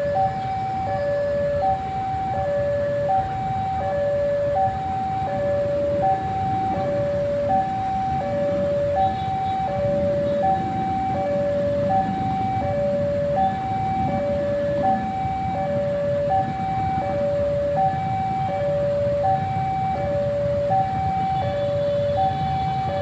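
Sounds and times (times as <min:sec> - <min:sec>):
electronic two-tone alarm: 0:00.0 - 0:23.0
traffic rumble: 0:00.0 - 0:23.0.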